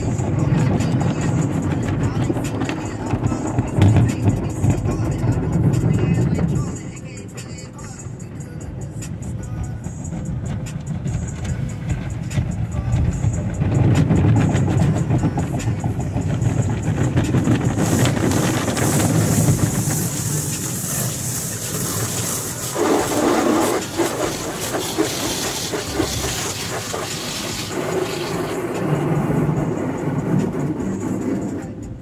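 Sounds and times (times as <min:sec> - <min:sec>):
water spray on windshield: 0:00.0 - 0:08.2, 0:10.1 - 0:31.8
car wash machinery rumble: 0:00.0 - 0:32.0.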